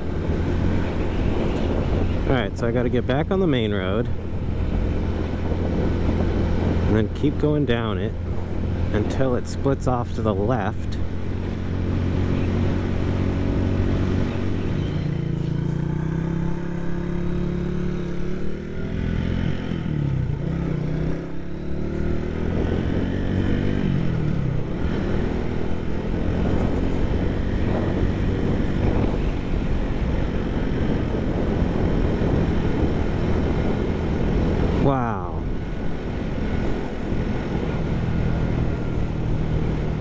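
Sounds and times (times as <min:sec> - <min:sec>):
low wind rumble: 0:00.0 - 0:40.0
motorcycle engine revving: 0:00.0 - 0:40.0.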